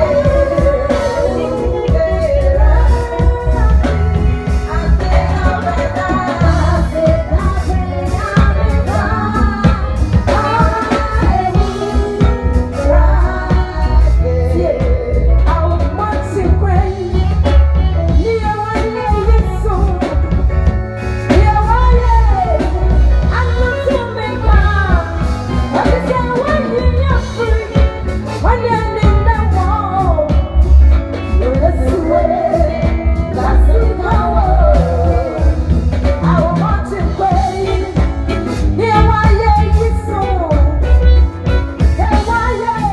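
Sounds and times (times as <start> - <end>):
person singing: 0.0 - 20.4, 21.3 - 42.9
band playing: 0.0 - 42.9
heavy bass: 0.0 - 42.9.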